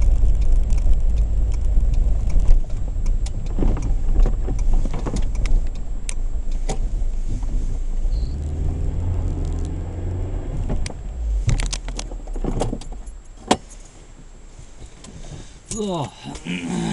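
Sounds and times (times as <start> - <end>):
car engine and road rumble: 0.0 - 16.9.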